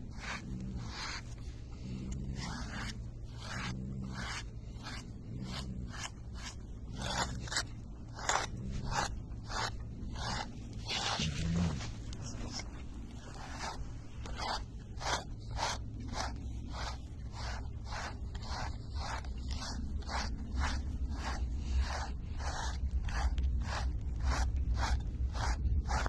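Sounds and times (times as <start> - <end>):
hand stroking dog fur: 0.0 - 26.0
low steady hum: 0.0 - 26.0.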